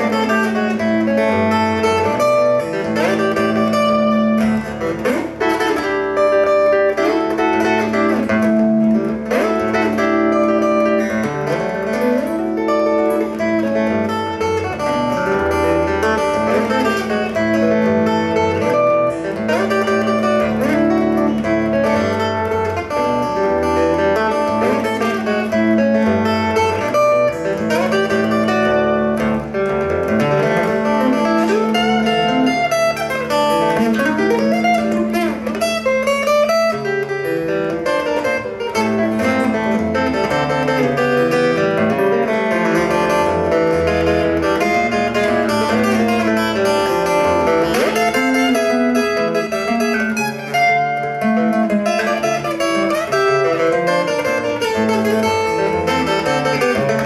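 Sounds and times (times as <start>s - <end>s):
fingerstyle acoustic guitar: 0.0s - 57.0s.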